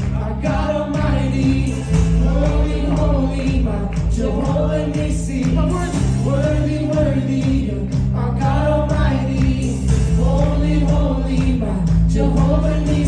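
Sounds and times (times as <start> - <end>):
band with bass and percussion: 0.0 - 13.0
voices singing gospel: 0.0 - 13.0.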